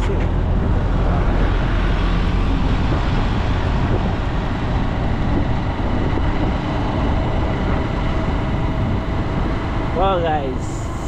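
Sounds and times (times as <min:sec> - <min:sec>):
motorcycle engine rumbling: 0:00.0 - 0:11.0
wind and road noise: 0:00.0 - 0:11.0.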